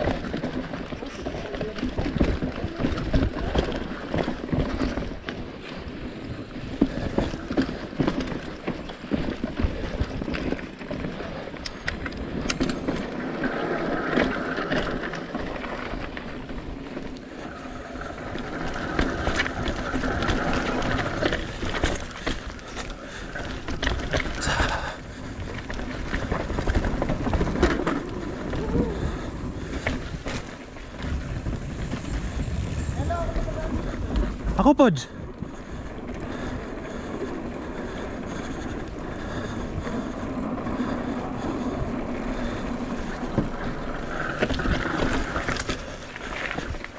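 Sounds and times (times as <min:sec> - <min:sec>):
bike chain and frame clattering: 0:00.0 - 0:46.9
bike tyres rolling on dirt: 0:00.0 - 0:46.9.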